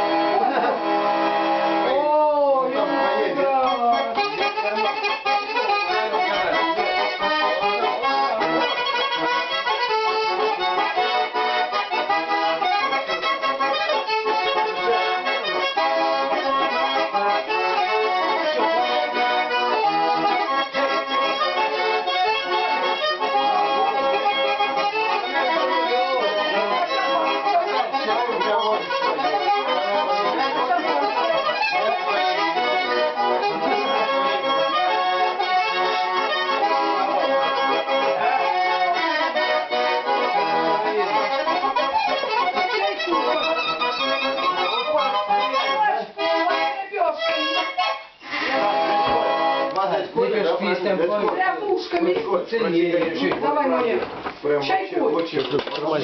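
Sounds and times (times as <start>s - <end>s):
button accordion folk tune: 0.0s - 56.0s.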